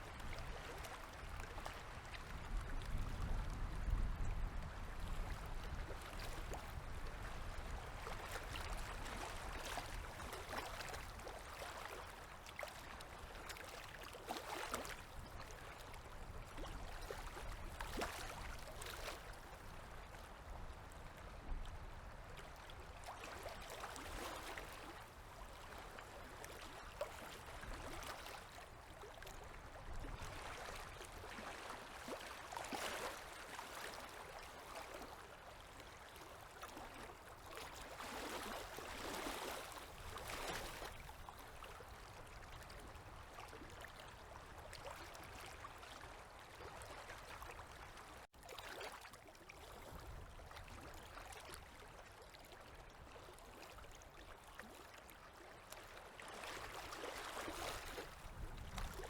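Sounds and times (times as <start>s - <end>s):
river waves lapping: 5.4s - 21.2s, 22.1s - 59.0s.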